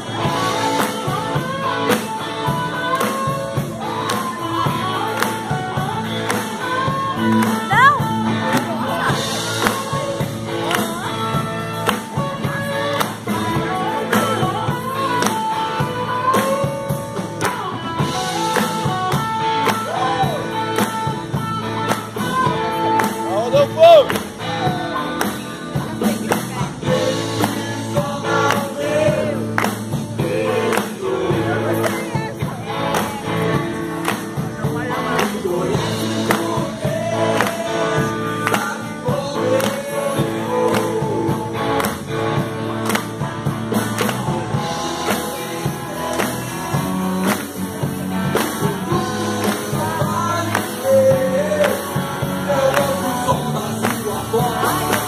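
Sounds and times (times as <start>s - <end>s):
person singing: 0.0s - 42.1s, 44.0s - 55.0s
bass guitar: 0.0s - 55.0s
drumbeat: 0.0s - 55.0s
electric guitars: 0.0s - 55.0s.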